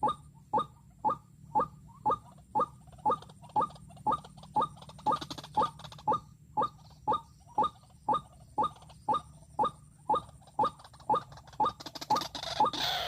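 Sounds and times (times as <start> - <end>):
waterhen calling sharp notes: 0.0 - 13.0.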